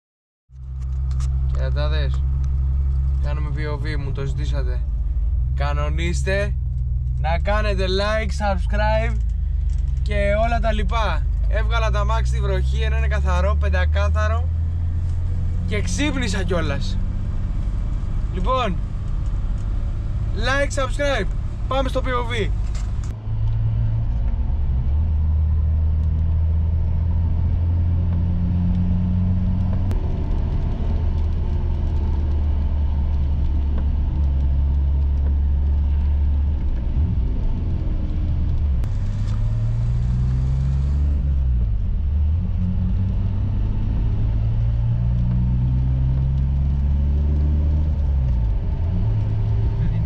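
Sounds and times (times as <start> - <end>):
car engine accelerating: 0.5 - 50.0
tyre noise on wet road: 0.6 - 50.0.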